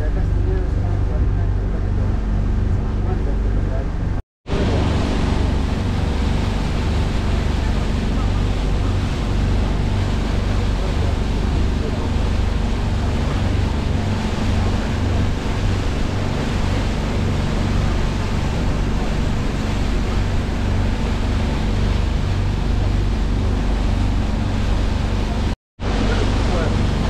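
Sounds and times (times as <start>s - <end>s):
boat engine droning: 0.0s - 27.0s
water noise: 0.0s - 27.0s
wind: 0.0s - 27.0s.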